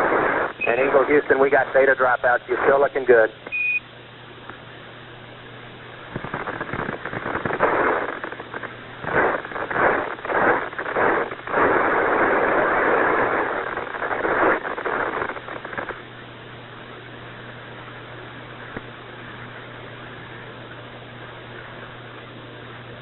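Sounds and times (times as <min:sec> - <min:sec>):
radio static crackling: 0:00.0 - 0:23.0.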